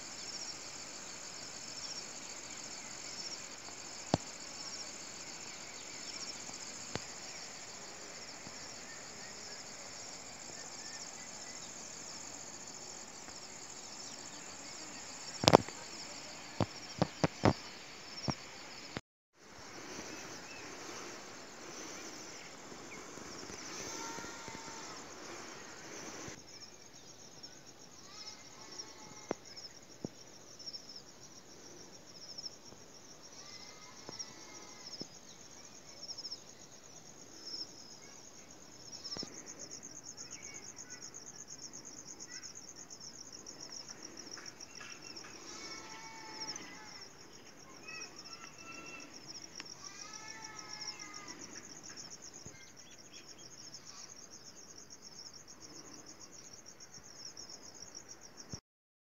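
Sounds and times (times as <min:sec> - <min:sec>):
insects trilling: 0:00.0 - 0:58.6.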